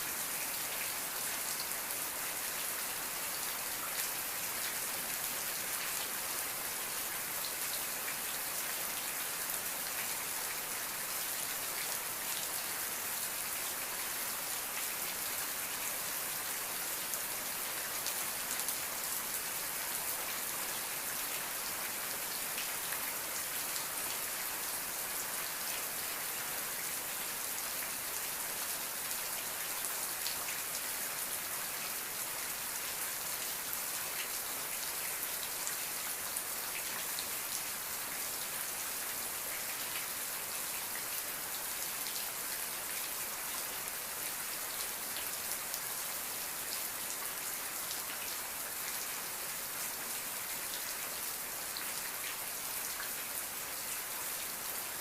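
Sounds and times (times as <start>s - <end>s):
rain drops pattering on a surface: 0.0s - 55.0s.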